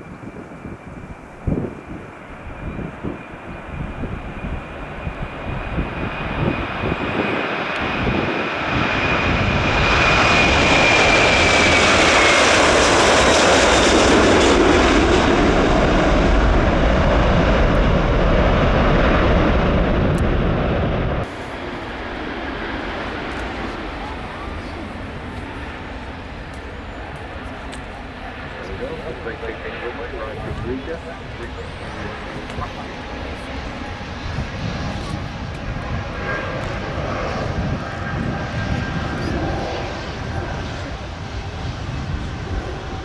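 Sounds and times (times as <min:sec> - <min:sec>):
airliner engines passing: 0:00.0 - 0:43.0.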